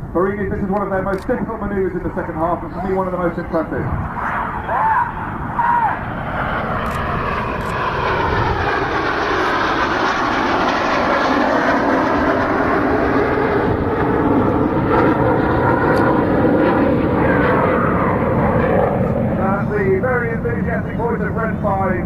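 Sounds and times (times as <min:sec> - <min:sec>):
jet engines rushing past: 0:00.0 - 0:22.0.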